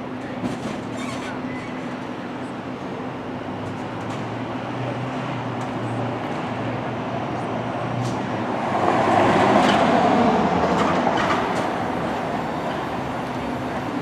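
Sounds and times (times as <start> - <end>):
city street traffic hum: 0.0 - 14.0.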